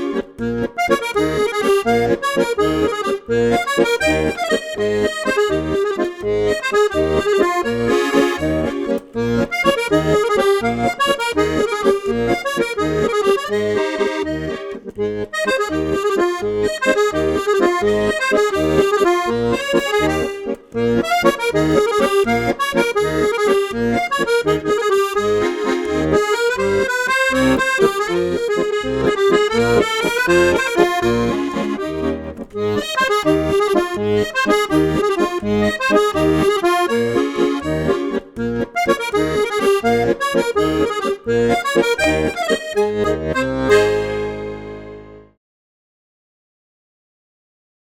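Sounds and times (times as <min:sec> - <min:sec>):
lively accordion tune: 0:00.0 - 0:45.4.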